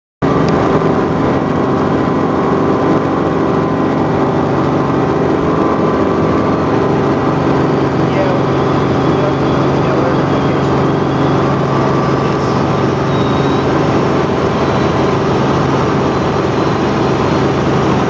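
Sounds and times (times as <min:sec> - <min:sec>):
helicopter engine and rotor drone: 0:00.2 - 0:18.0.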